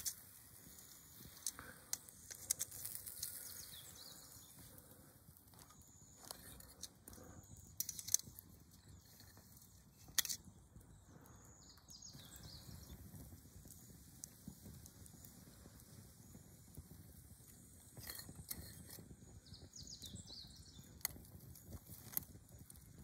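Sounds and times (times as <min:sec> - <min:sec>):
quiet outdoor ambience: 0:00.0 - 0:23.0.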